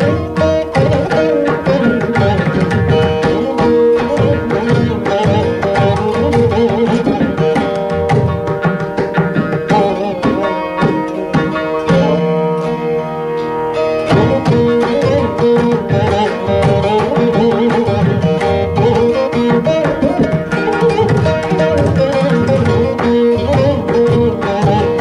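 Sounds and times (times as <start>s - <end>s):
plucked string melody: 0.0s - 25.0s.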